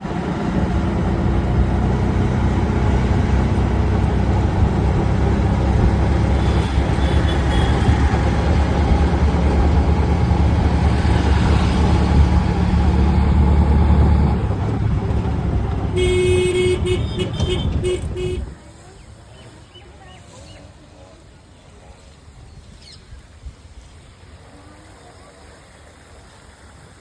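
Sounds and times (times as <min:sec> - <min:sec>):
traffic engines rumbling: 0:00.0 - 0:22.5.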